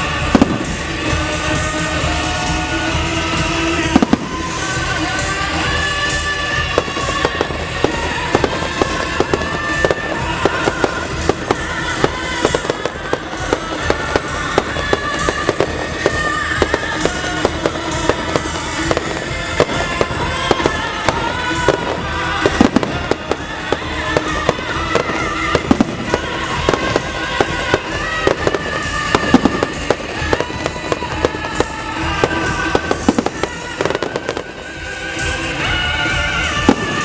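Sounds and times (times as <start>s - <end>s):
fireworks bangs and crackles: 0.0s - 37.0s
music: 0.0s - 37.0s.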